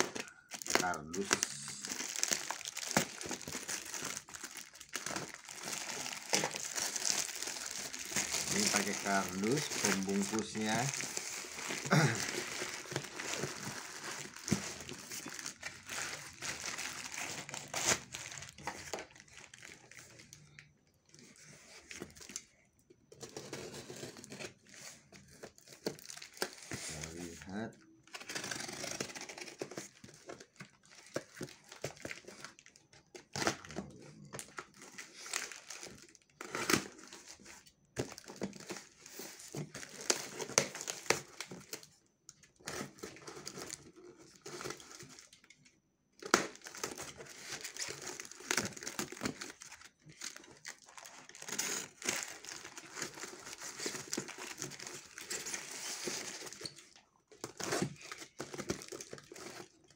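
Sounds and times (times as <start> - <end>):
tape and film crinkling: 0.0 - 22.5, 23.1 - 59.9.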